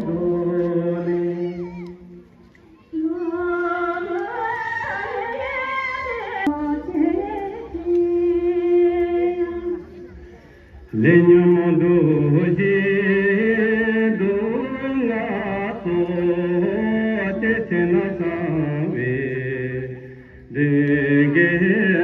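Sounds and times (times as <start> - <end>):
singing with long held notes: 0.0 - 22.0.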